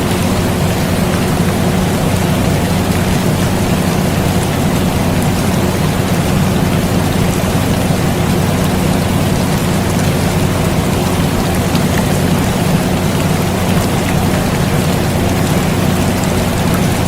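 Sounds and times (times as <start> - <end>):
air conditioner humming: 0.0 - 17.0
steady rain: 0.0 - 17.0.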